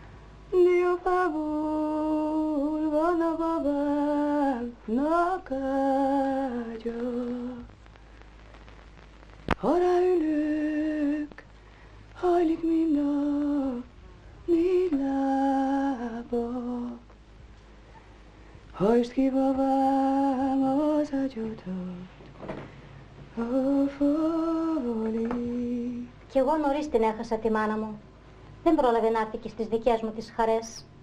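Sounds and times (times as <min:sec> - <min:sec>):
woman singing unaccompanied: 0:00.5 - 0:07.8, 0:09.5 - 0:17.1, 0:18.7 - 0:22.2, 0:23.3 - 0:28.0, 0:28.7 - 0:31.0.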